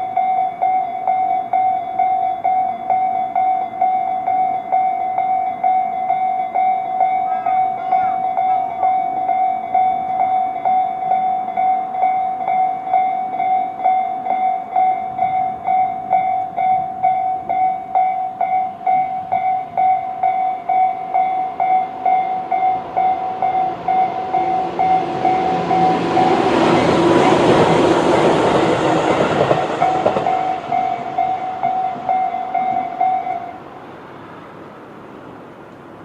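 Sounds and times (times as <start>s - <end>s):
level crossing warning bells: 0.0s - 36.0s
train passing over crossing: 0.0s - 36.0s.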